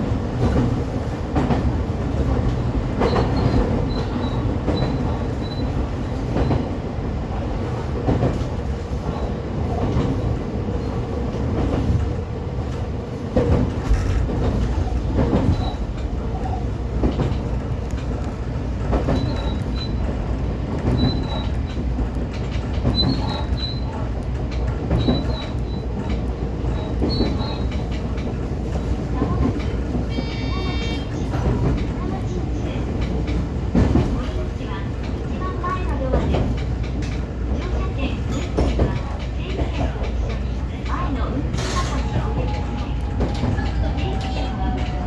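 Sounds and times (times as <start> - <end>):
train wheels rumbling on rail: 0.0 - 45.0
clacks over rail joints: 0.1 - 45.0.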